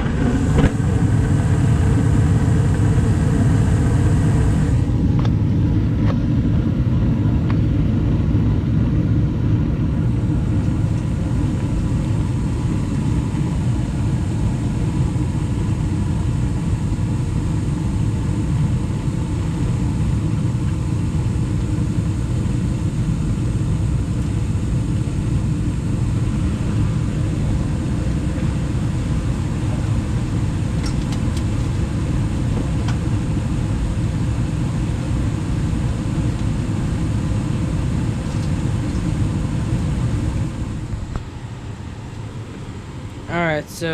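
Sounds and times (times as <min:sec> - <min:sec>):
gas furnace rumbling: 0:00.0 - 0:43.9.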